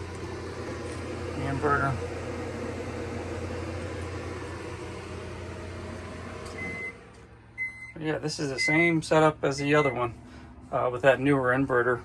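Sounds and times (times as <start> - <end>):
cooling fans running: 0.0 - 12.0
microwave oven hum: 0.0 - 12.0.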